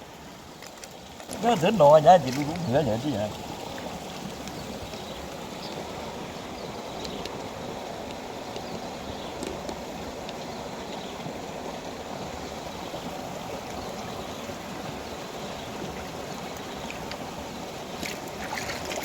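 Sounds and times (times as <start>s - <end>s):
river water rushing at a weir: 0.0s - 19.0s.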